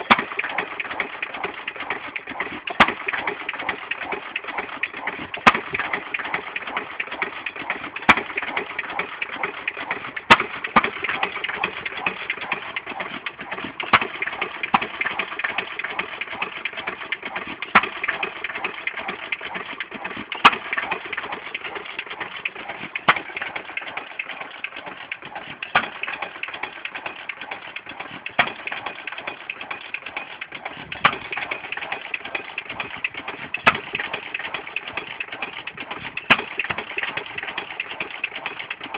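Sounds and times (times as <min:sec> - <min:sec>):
rapid clatter of valve gear: 0:00.0 - 0:38.9.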